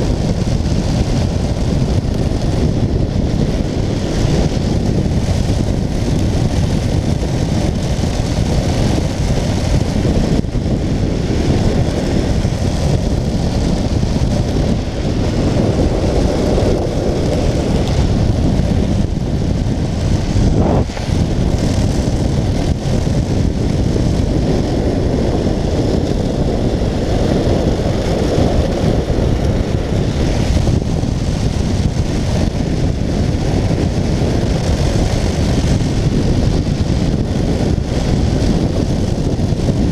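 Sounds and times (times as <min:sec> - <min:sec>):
road rumble: 0:00.0 - 0:39.9
wind rushing on microphone: 0:00.0 - 0:39.9.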